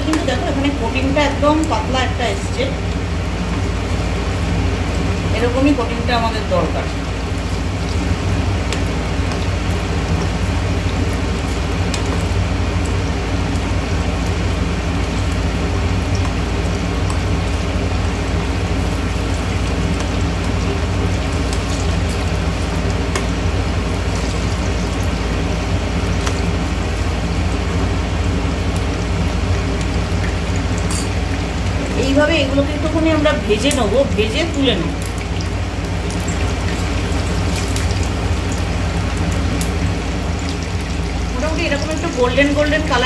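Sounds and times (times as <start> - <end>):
chicken sizzling in hot oil: 0.0 - 43.0
extractor fan humming: 0.0 - 43.0.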